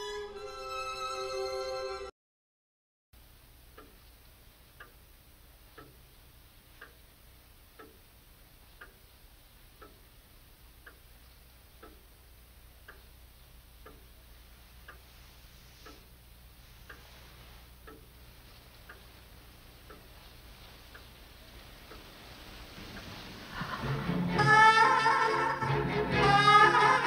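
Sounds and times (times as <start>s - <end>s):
steady hiss: 3.2s - 25.6s
clock ticking: 3.5s - 15.1s, 15.8s - 27.0s.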